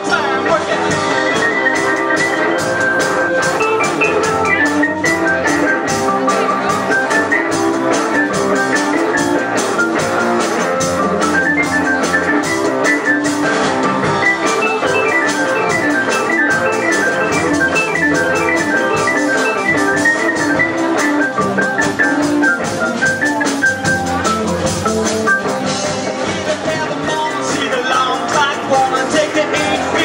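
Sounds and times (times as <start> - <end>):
drums: 0.0 - 30.0
upright bass: 0.0 - 30.0
electric keyboard quick runs: 1.7 - 26.0.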